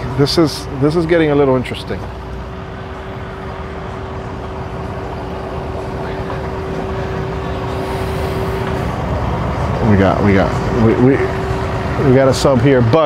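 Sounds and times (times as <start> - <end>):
outboard motors idling: 0.0 - 13.0.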